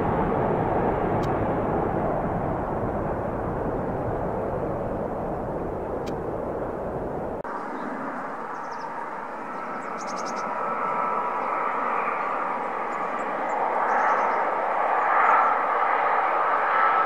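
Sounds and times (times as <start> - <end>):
jet engine rumble with whistling whine: 0.0 - 17.0.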